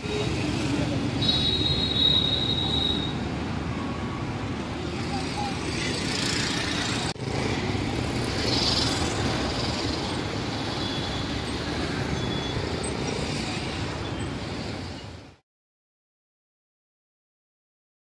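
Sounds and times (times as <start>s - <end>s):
motorcycle engines: 0.0s - 15.4s.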